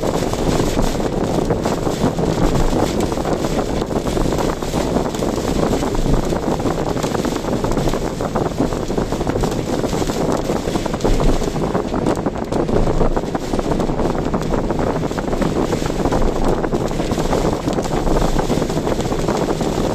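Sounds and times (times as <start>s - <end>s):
car driving on road: 0.0s - 19.9s
strong wind rushing: 0.0s - 19.9s.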